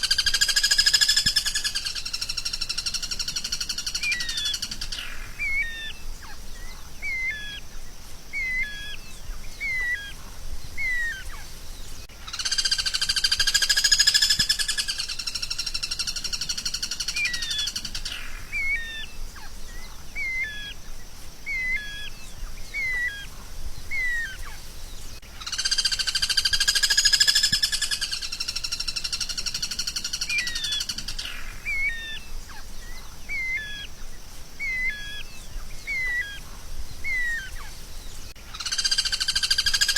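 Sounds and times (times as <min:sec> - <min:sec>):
loud buzzing bird trill: 0:00.0 - 0:34.0, 0:34.6 - 0:39.9
songbird chirping: 0:00.0 - 0:39.9.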